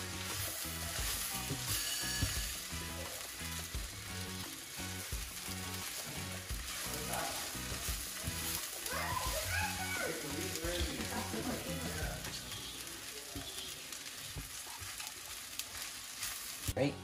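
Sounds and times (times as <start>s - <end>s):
reggae music: 0.0s - 13.8s
fried rice sizzling in a pan: 0.0s - 17.0s.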